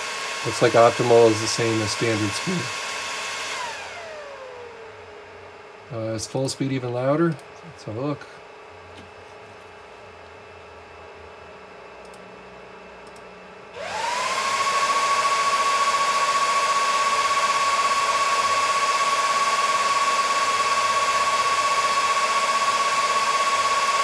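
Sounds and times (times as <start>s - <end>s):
server cooling fans whining: 0.0s - 24.0s.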